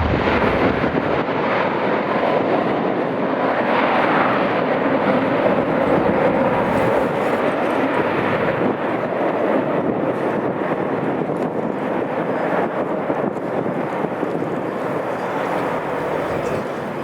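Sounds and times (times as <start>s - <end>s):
jet engines at high power: 0.0s - 17.0s.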